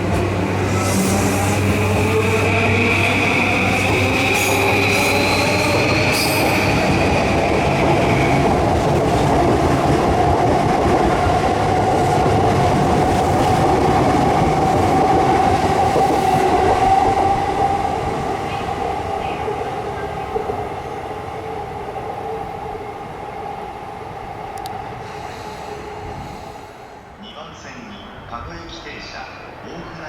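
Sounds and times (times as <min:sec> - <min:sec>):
train wheels rumbling on rail: 0:00.0 - 0:27.2.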